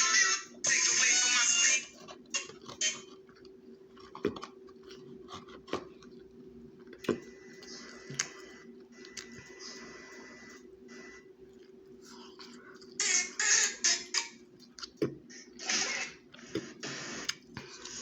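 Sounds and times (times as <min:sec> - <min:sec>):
person chewing food: 0:00.0 - 0:13.0, 0:14.4 - 0:18.0
low steady hum: 0:00.0 - 0:18.0.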